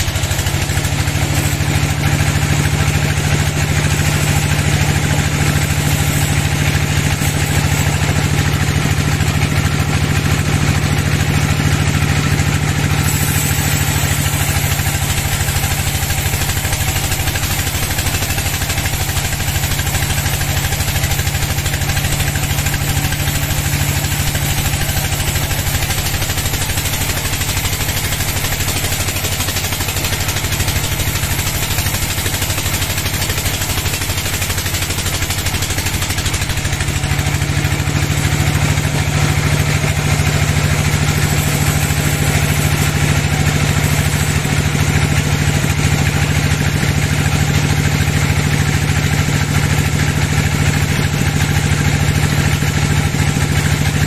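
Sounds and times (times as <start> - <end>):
saw blade hissing through wood: 0.0 - 47.8
sawmill machine drone: 0.0 - 54.0.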